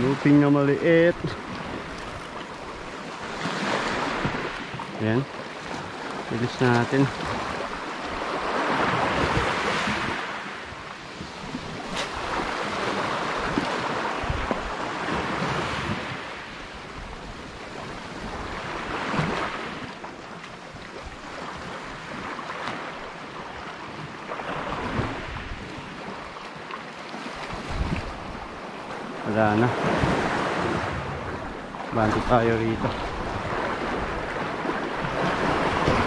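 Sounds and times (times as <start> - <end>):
wind on microphone: 0.0 - 20.0, 23.6 - 26.2, 27.2 - 28.6, 29.2 - 36.0
sea waves washing against rocks: 0.0 - 36.0.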